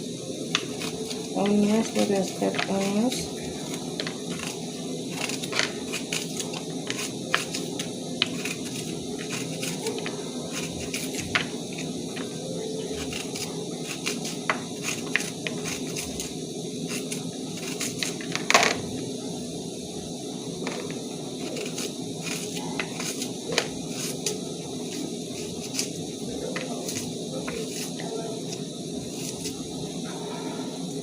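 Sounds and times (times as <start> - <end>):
stew hissing and crackling: 0.0 - 31.0.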